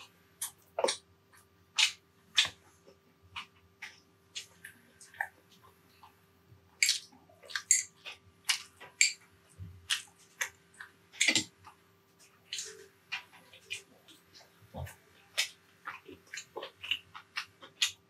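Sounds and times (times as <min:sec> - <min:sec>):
faint steady hum: 0:00.0 - 0:18.0
person chewing and smacking: 0:00.0 - 0:18.0.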